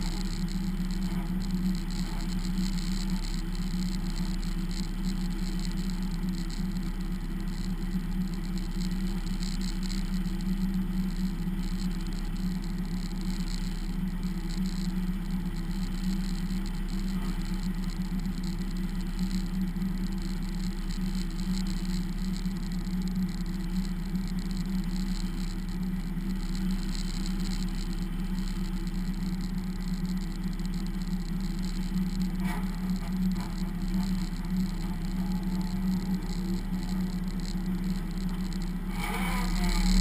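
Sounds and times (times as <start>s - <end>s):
race car engine running: 0.0s - 40.0s.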